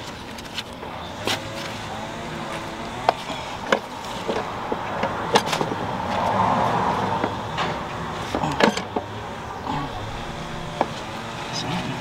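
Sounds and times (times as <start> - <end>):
low hum: 0.8 - 12.0.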